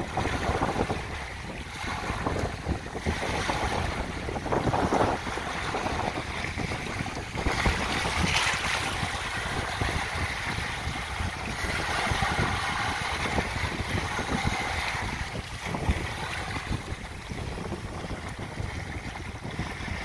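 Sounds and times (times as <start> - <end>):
waves washing over pebbly shore: 0.0 - 20.0
wind rumble on microphone: 0.0 - 20.0.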